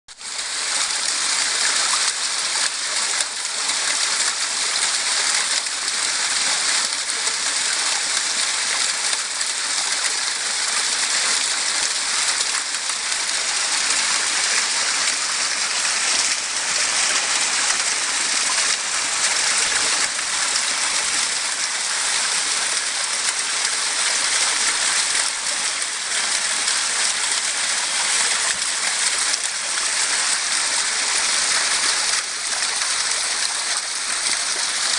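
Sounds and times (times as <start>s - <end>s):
small waterfall splashing: 0.1s - 34.9s.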